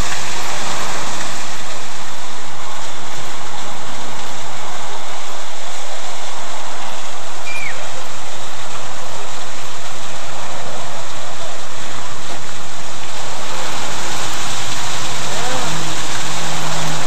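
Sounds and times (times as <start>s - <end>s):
waterfall splashing into pool: 0.0s - 17.0s.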